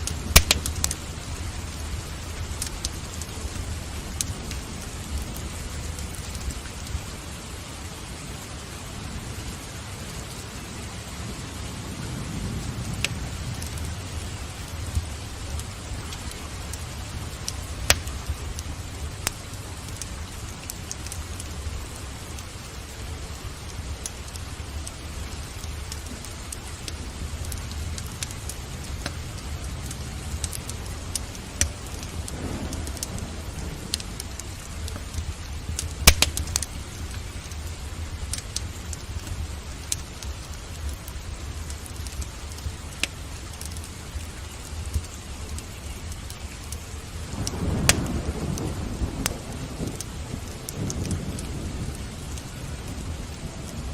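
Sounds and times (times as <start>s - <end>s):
rain hiss: 0.0s - 53.9s
wood fire crackling: 0.0s - 53.9s.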